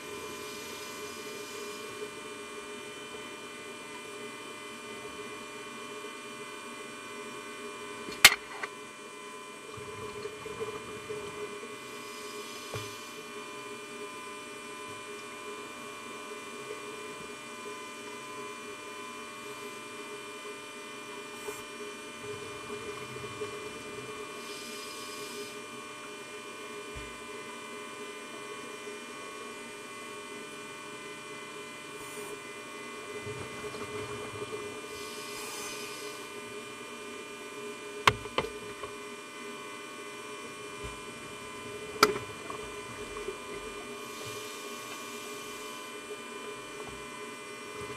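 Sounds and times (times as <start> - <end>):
underwater motor hum and whine: 0.0 - 47.9.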